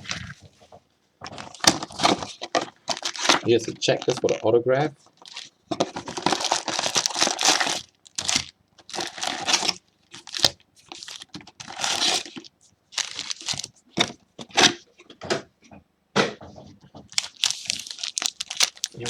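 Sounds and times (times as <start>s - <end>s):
plastic wrapping crinkling and tearing: 1.2s - 14.8s, 17.1s - 19.0s.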